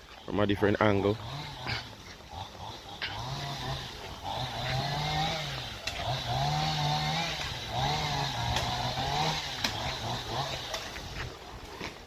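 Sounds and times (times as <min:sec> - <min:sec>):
chainsaw engine revving: 0:00.1 - 0:12.0.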